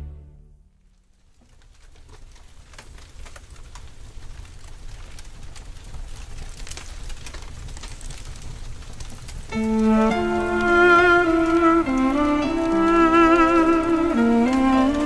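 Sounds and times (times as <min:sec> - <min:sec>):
crackling and pattering noise: 0:00.0 - 0:15.0.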